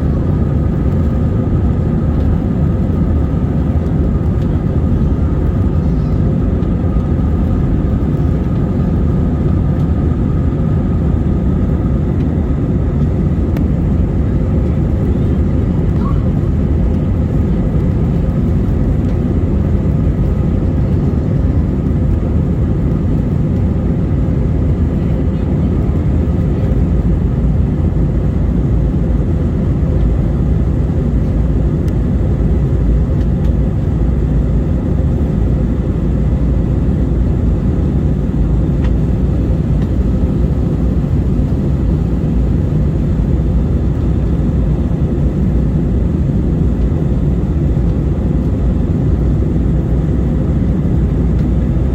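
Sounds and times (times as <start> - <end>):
airliner engine and airflow rumble: 0.0 - 51.9.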